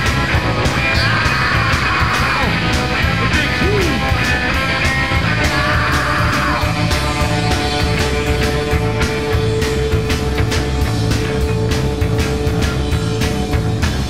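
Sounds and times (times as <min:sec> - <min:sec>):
fast drum beat: 0:00.0 - 0:14.0
rock music: 0:00.0 - 0:14.0.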